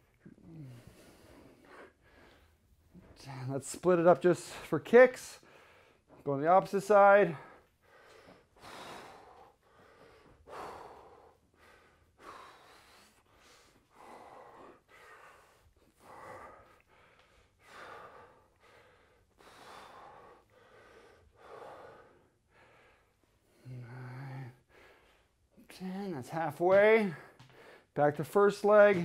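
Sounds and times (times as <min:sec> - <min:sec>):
man breathing hard: 0:00.0 - 0:03.2, 0:04.4 - 0:06.2, 0:06.9 - 0:25.6, 0:26.8 - 0:29.0.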